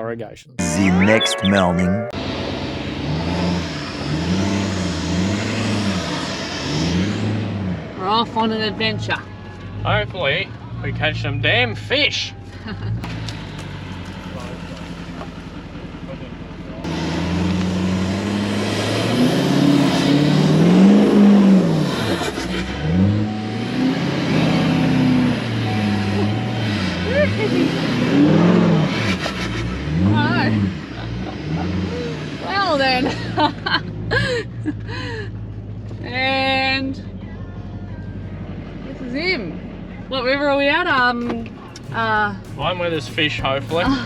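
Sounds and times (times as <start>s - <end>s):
road noise: 0.6s - 44.0s
vehicle engine accelerating: 2.1s - 11.8s, 12.4s - 36.1s, 40.9s - 44.0s.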